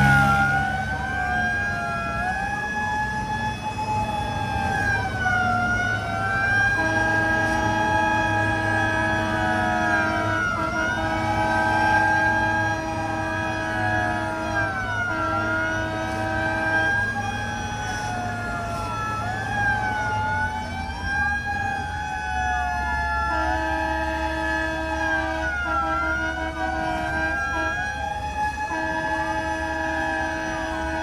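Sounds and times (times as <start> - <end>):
fire truck sirens wailing: 0.0 - 31.0
steady siren tone: 0.0 - 31.0.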